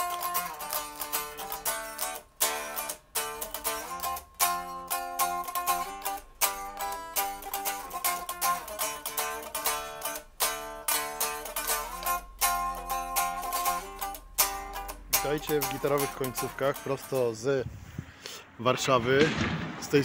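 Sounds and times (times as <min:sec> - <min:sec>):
electric guitar picked notes: 0:00.0 - 0:17.5.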